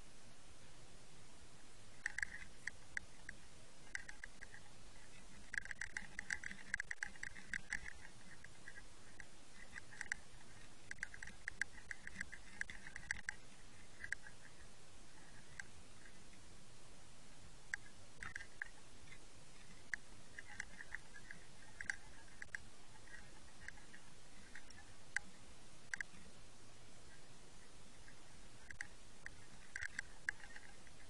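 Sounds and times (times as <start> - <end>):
sharp underwater clicks: 1.9 - 16.4, 17.7 - 26.4, 27.9 - 31.0.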